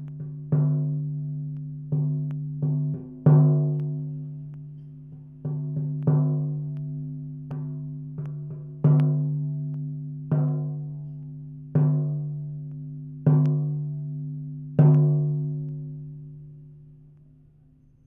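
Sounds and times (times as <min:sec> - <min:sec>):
low-pitched drum beats: 0:00.0 - 0:16.0.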